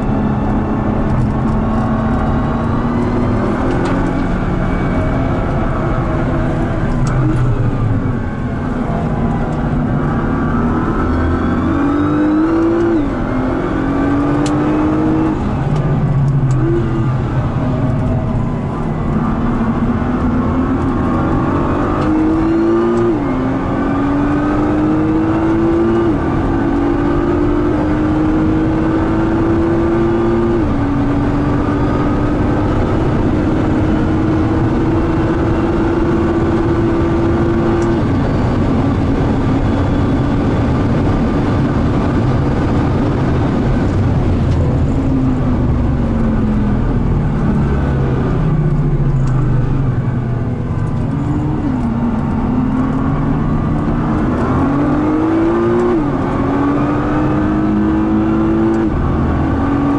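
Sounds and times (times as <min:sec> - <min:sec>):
car engine accelerating through gears: 0:00.0 - 0:59.9.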